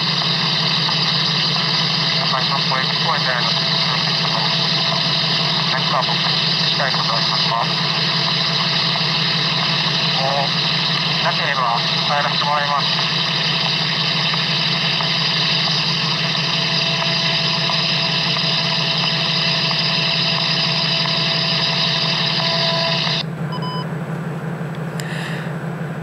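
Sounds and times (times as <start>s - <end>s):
radio static hiss: 0.0s - 23.3s
low hum: 0.0s - 26.0s
short beeping tones: 3.0s - 23.9s.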